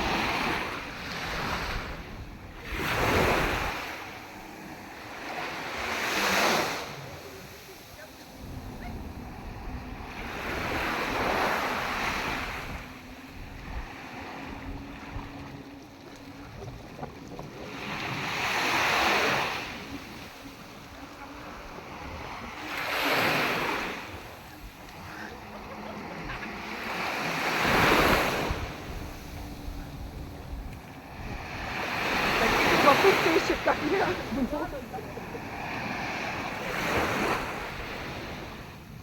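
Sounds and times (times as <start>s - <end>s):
sea waves breaking: 0.0s - 39.0s.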